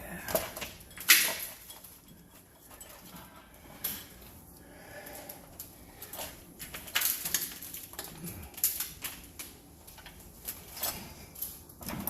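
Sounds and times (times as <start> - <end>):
metal tools clinking: 0.0 - 4.3, 6.0 - 12.0.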